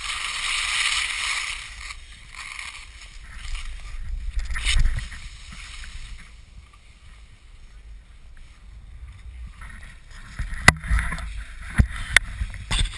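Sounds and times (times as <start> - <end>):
low wind rumble: 0.0 - 12.9.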